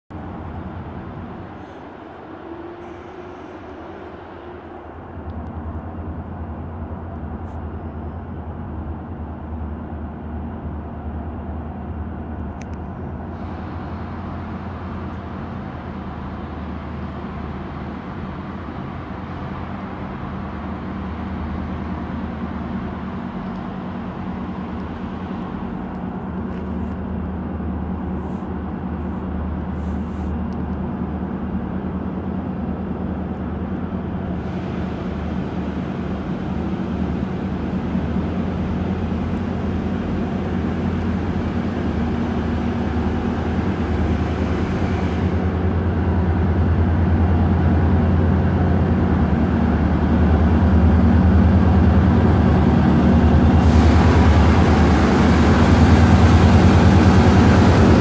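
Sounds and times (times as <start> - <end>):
train rumbling: 0.1 - 58.0.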